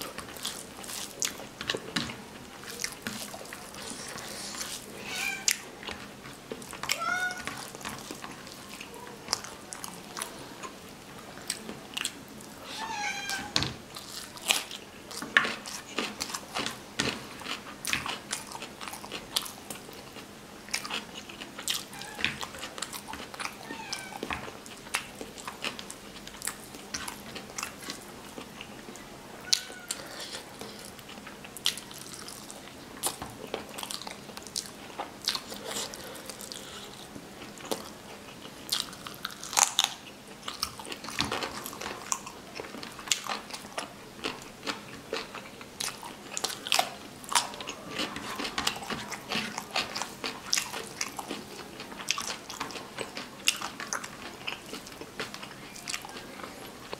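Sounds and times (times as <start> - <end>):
person chewing food: 0.0 - 12.6, 13.9 - 56.9.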